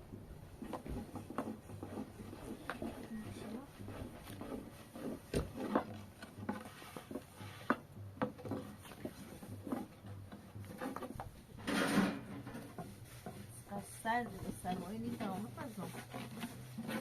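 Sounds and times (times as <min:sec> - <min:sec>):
knocks and rubbing of handling: 0:00.1 - 0:17.0.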